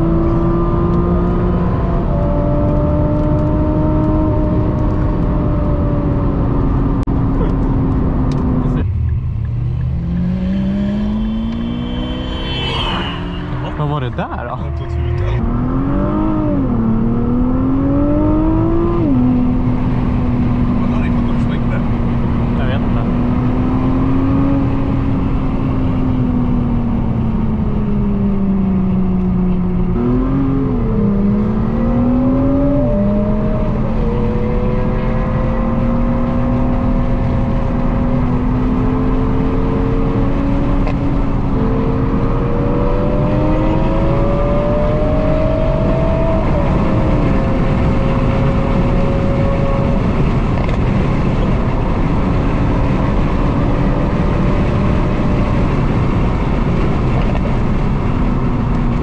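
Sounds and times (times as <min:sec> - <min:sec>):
car engine from inside cabin: 0:00.0 - 0:59.0
road and tyre noise: 0:00.0 - 0:59.0.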